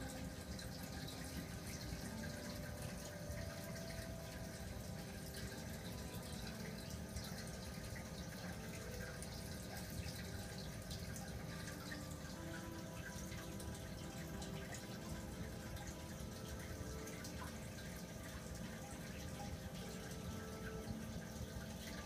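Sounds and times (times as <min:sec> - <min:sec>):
aquarium water trickling: 0:00.0 - 0:22.0
faint steady tones: 0:00.0 - 0:22.0.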